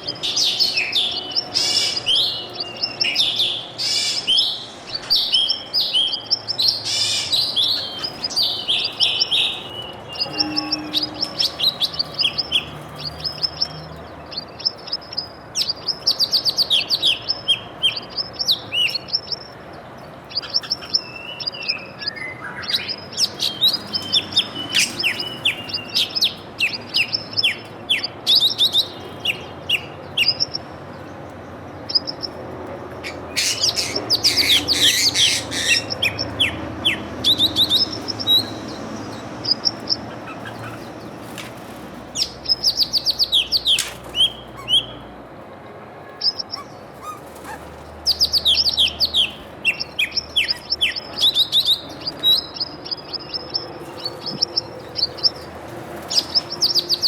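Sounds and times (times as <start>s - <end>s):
small songbirds chirping: 0.0s - 45.2s, 46.1s - 57.0s.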